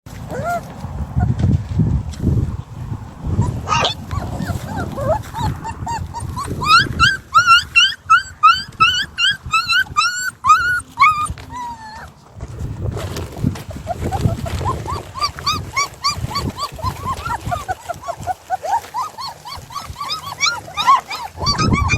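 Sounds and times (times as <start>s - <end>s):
low shuffling: 0.1s - 8.1s, 10.6s - 21.9s
puppy whimpering and yelping: 0.2s - 1.3s, 3.2s - 12.2s, 13.8s - 21.9s.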